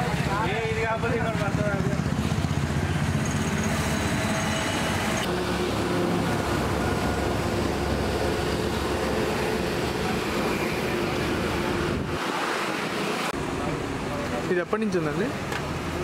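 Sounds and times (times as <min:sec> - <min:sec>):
vehicle engines rumbling: 0:00.0 - 0:16.0.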